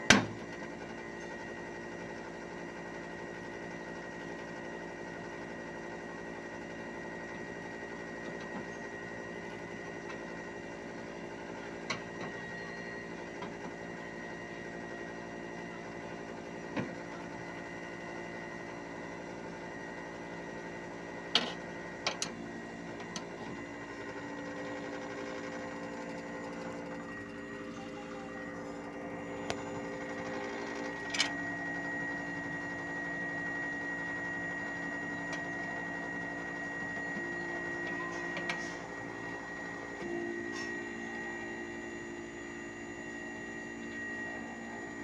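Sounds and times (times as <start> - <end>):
air conditioner unit humming: 0.0 - 45.0.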